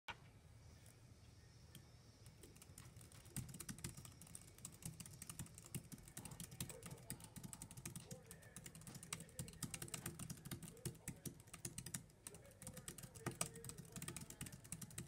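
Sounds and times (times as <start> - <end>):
fast typing on keyboard: 2.3 - 15.0.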